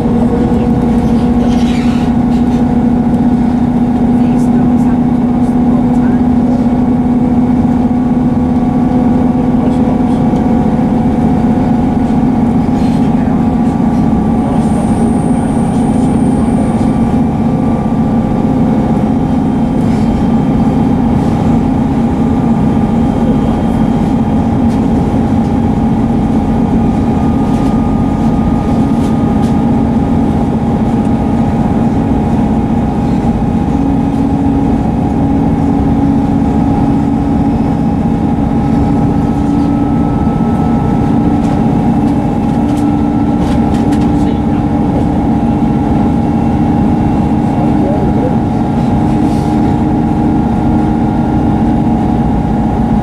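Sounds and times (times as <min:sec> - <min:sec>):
diesel engine drone: 0:00.0 - 0:53.0
rail rumble: 0:00.0 - 0:53.0.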